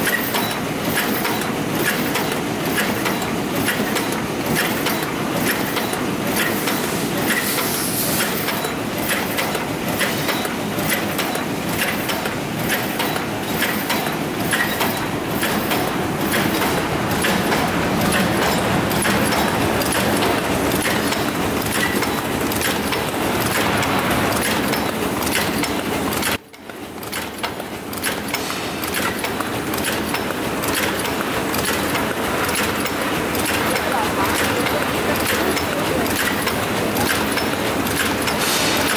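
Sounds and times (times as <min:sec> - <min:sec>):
machine clattering rhythmically: 0:00.0 - 0:38.9.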